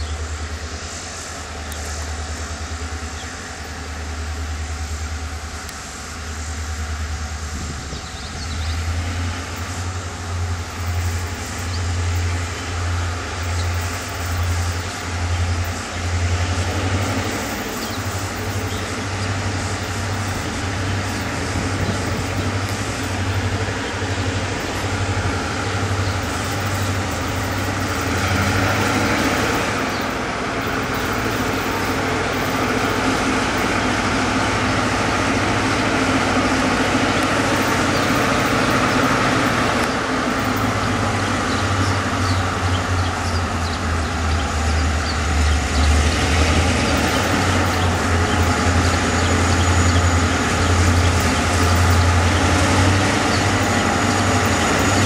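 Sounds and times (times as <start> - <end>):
locomotive engine hum: 0.0 - 55.0
train wheel and rail noise: 0.0 - 55.0.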